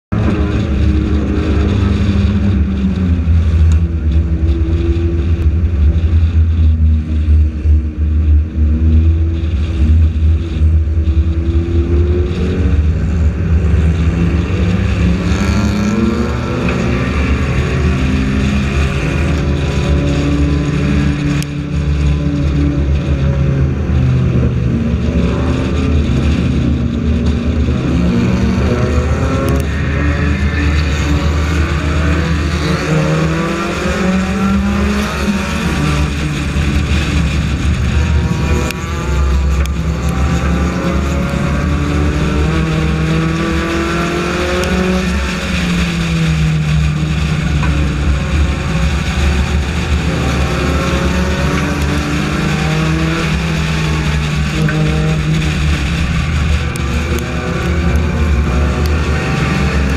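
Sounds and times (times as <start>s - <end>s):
other cars' engines: 0.0s - 59.9s
race car engine revving: 0.0s - 59.9s.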